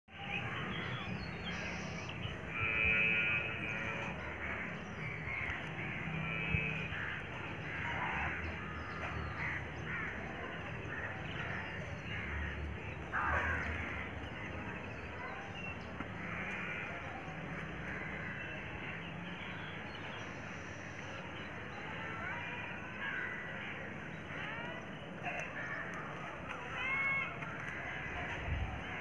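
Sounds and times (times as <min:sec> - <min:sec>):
birds calling and chirping: 0:00.1 - 0:29.0.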